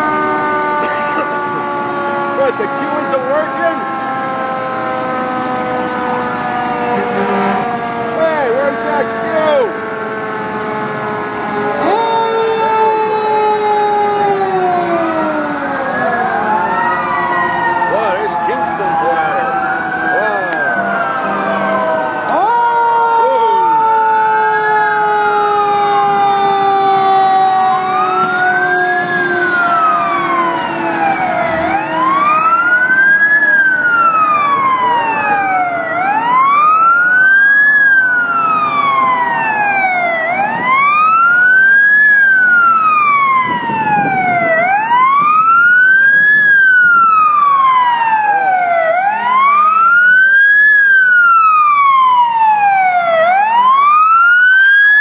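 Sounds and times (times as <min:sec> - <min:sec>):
long siren tone: 0:00.0 - 0:55.0
wail siren rising and falling: 0:00.0 - 0:55.0.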